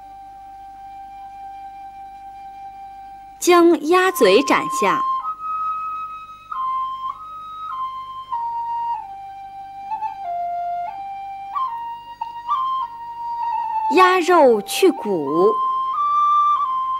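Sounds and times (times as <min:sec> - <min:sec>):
flute playing slow melody: 0:00.0 - 0:16.9.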